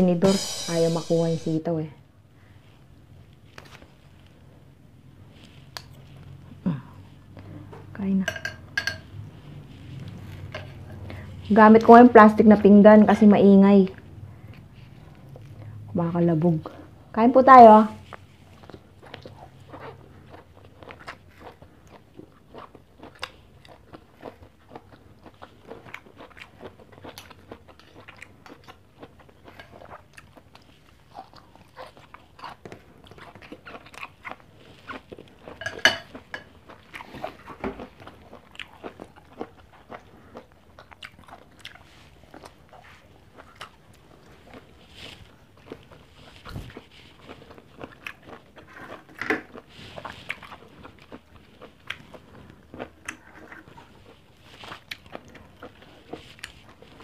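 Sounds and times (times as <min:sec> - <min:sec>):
crunching and chewing food: 0:02.4 - 0:12.1, 0:13.1 - 0:17.2, 0:18.0 - 0:57.0.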